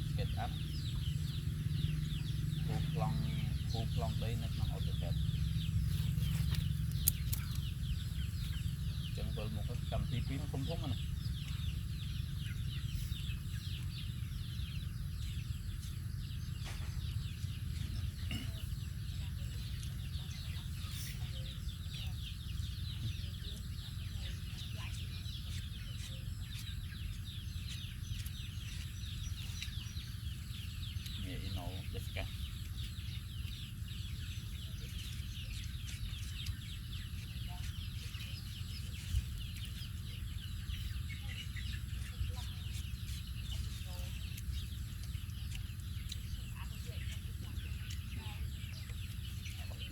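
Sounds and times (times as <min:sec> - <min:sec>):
low rumble: 0:00.0 - 0:49.9
small animals peeping chirps: 0:00.0 - 0:49.9
steady low hum: 0:00.0 - 0:49.9.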